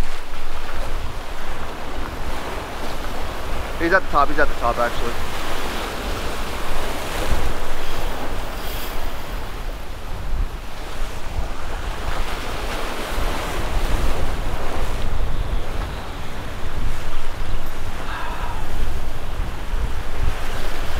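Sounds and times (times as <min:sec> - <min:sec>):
surf washing against jetty: 0:00.0 - 0:20.9
wind rumbling on microphone: 0:00.0 - 0:20.9.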